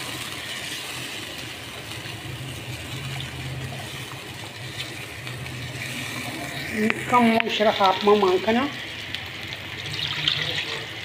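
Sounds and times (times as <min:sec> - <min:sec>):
food cooking in a pot: 0:00.0 - 0:11.0.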